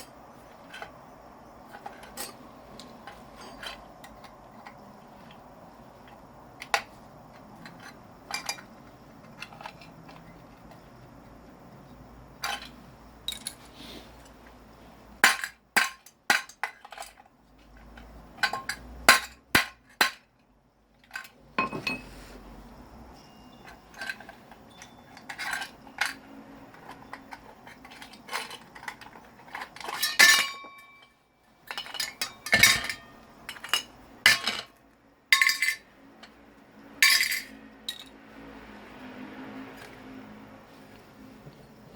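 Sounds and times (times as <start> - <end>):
metal parts clinking and knocking: 0.0 - 10.9, 12.4 - 14.4, 15.2 - 22.1, 23.2 - 36.4, 37.0 - 38.2.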